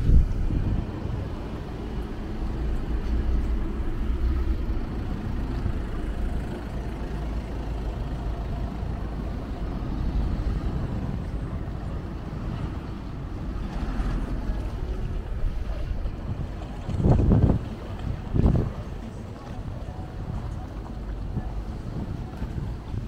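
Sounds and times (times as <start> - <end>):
traffic engine rumble: 0.0 - 23.0.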